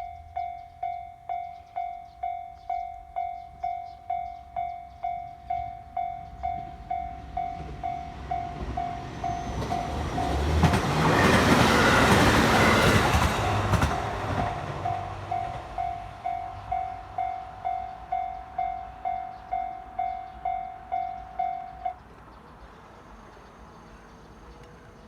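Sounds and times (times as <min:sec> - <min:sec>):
diesel railcar passing: 0:00.0 - 0:25.0.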